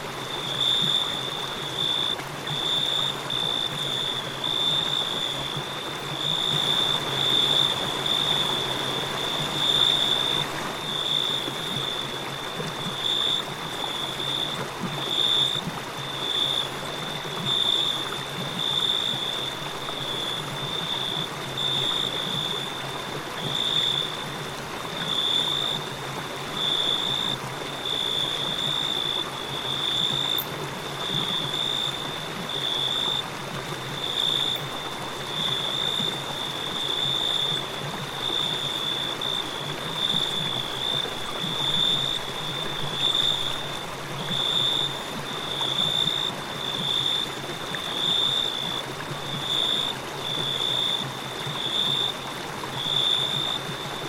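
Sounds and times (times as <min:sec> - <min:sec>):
crickets trilling: 0:00.0 - 0:54.0
flowing river water: 0:00.0 - 0:54.0.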